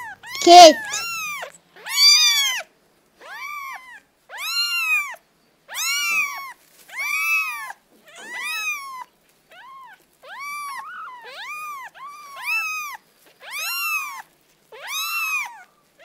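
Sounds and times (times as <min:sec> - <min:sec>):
cat meowing: 0:00.0 - 0:02.6, 0:03.2 - 0:14.2, 0:14.8 - 0:15.7.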